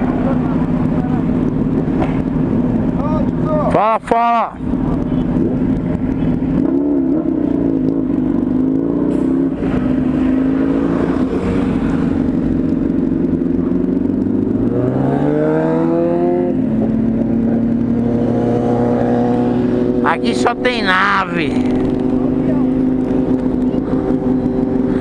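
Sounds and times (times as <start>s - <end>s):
motorcycle engine running: 0.0s - 3.8s, 4.6s - 8.9s, 9.8s - 14.9s, 15.6s - 25.0s.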